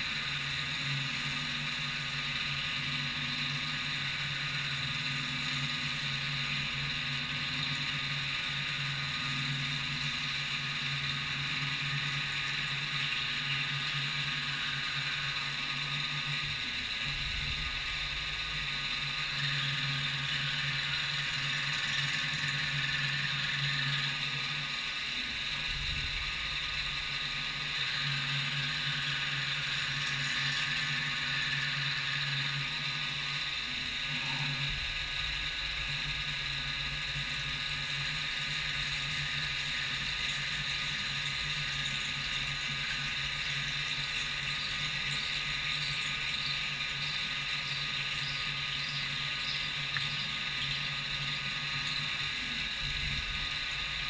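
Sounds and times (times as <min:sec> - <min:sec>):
low motor hum: 0:00.0 - 0:54.0
milling machine hiss and whine: 0:00.0 - 0:54.0.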